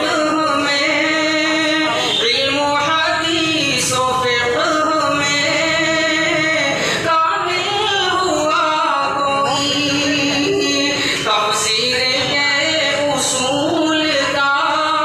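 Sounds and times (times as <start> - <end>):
voices singing devotional song: 0.0 - 15.0.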